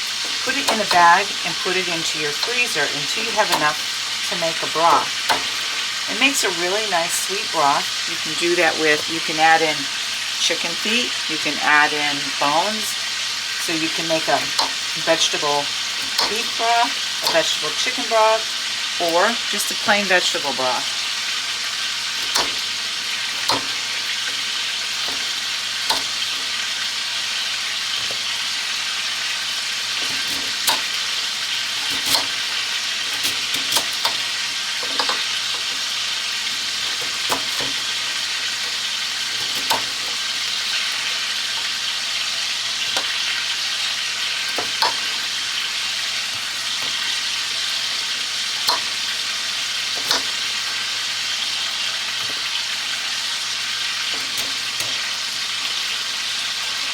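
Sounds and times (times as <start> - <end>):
food sizzling in a skillet: 0.0 - 56.9.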